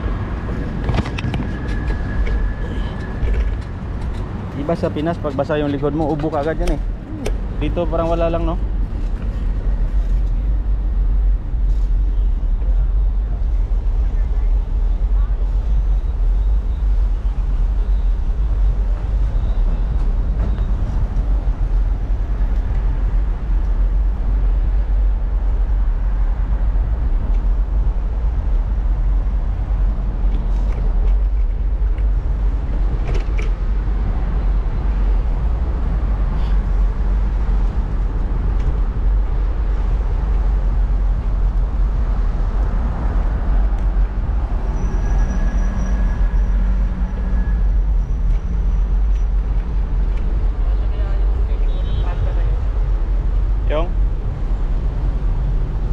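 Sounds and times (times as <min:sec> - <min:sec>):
road traffic: 0:00.0 - 0:55.9
wind rumble on microphone: 0:00.0 - 0:55.9.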